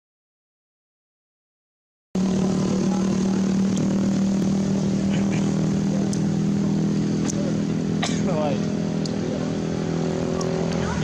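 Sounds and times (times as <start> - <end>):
engine humming: 2.2 - 11.0.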